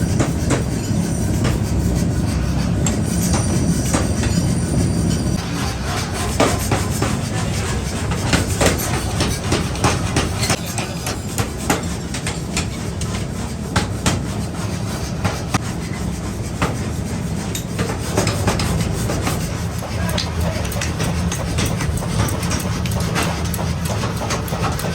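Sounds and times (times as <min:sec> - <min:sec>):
low rumble of workshop machinery: 0:00.0 - 0:24.9.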